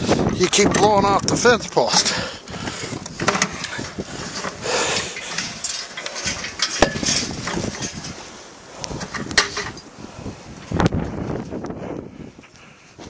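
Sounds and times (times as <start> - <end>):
blizzard wind on microphone: 0.0 - 13.0.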